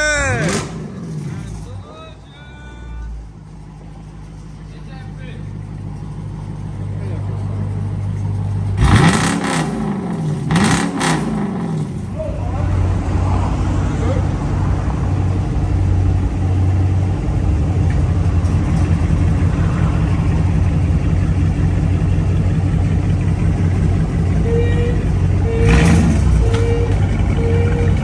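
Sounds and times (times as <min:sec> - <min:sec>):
deep exhaust rumble: 0:00.0 - 0:28.0.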